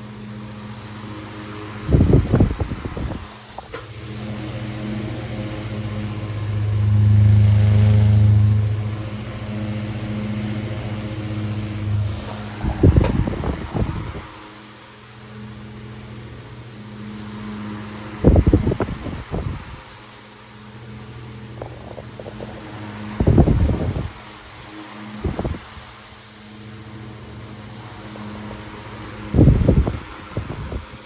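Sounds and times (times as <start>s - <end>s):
electric fan motor hum: 0.0s - 31.0s
gusty rush of air: 1.7s - 15.0s, 17.2s - 20.2s, 21.4s - 26.4s, 27.3s - 31.0s.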